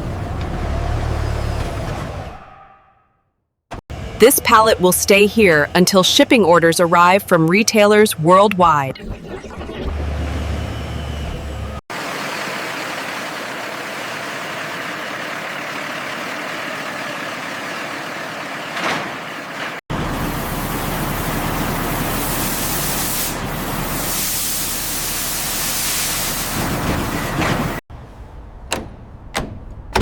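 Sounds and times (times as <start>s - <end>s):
vehicle noise: 0.0s - 3.0s, 3.7s - 30.0s.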